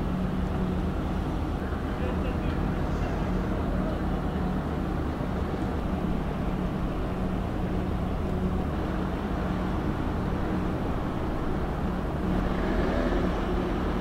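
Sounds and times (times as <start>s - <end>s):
marine diesel engines droning: 0.0s - 14.0s.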